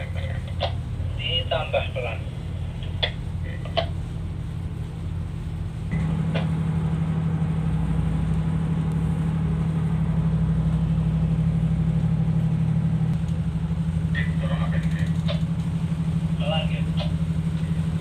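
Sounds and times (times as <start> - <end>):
ship's diesel engine throbbing: 0.0 - 18.0.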